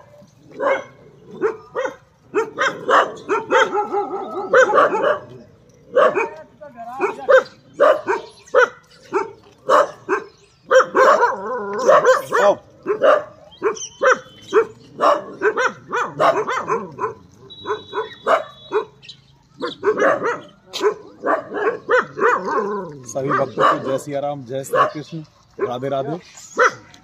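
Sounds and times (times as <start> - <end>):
dogs barking: 0.0 - 27.0.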